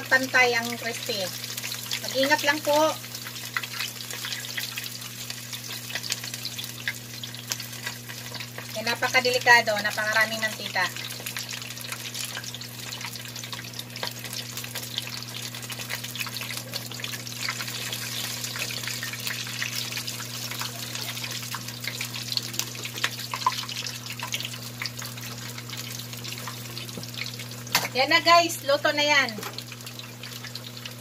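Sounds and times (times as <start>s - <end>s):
meat sizzling in hot oil: 0.0s - 31.0s.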